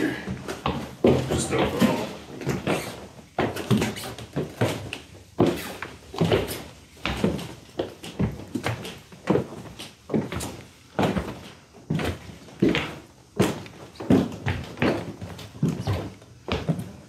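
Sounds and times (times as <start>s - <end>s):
footsteps on hard floor: 0.3s - 17.0s.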